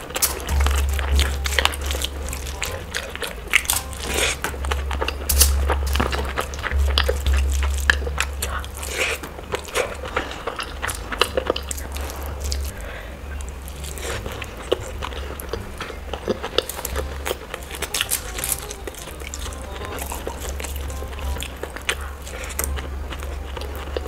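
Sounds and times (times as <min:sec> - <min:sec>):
chewing: 0:00.0 - 0:24.0
fingers squishing food: 0:00.0 - 0:24.0
mouth and finger clicks: 0:00.0 - 0:24.0.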